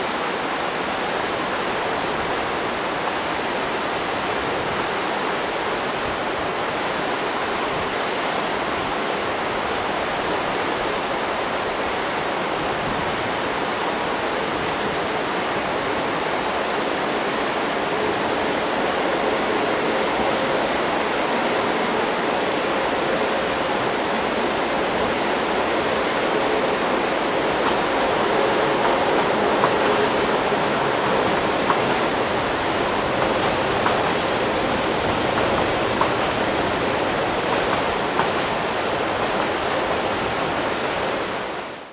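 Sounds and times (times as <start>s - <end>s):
river rushing over boulders: 0.0s - 41.8s
electric train hum: 0.0s - 41.9s.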